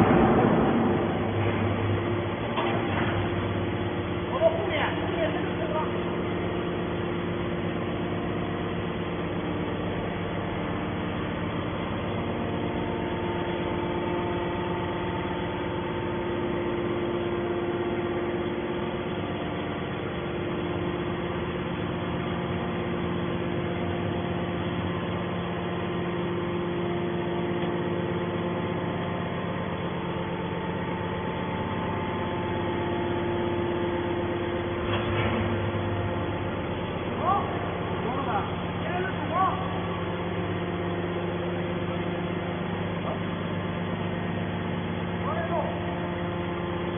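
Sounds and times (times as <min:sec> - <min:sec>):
baler mechanical hum: 0:00.0 - 0:46.9.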